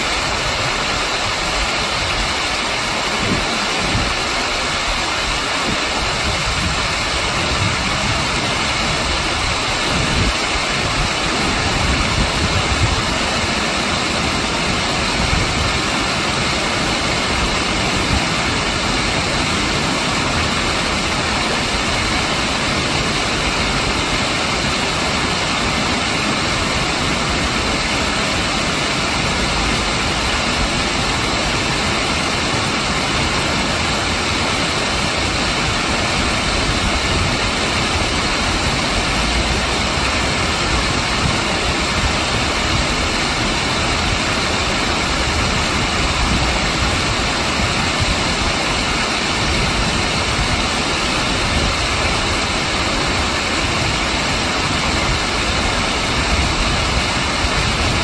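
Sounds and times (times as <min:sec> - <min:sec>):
water rushing over weir: 0:00.0 - 0:58.0.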